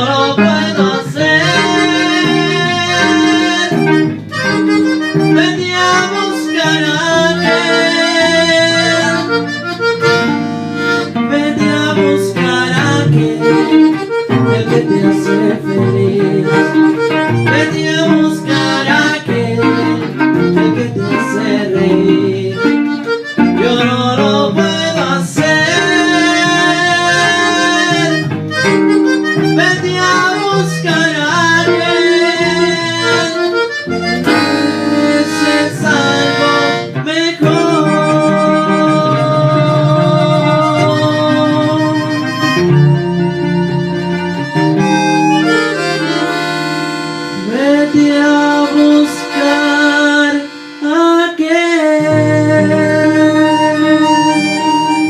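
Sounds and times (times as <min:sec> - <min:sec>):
accordion melody: 0:00.0 - 0:55.0
guitar accompaniment: 0:00.0 - 0:55.0.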